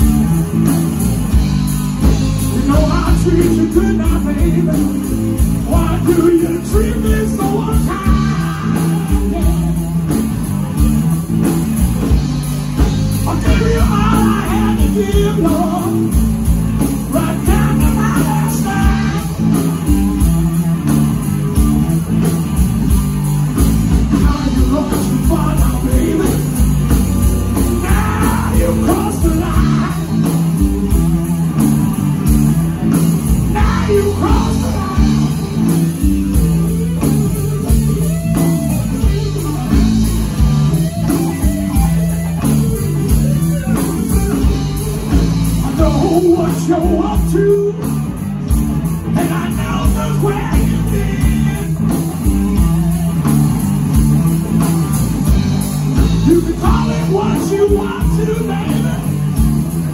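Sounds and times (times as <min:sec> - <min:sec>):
bass guitar: 0:00.0 - 0:59.9
drums: 0:00.0 - 0:59.9
electric guitar: 0:00.0 - 0:59.9.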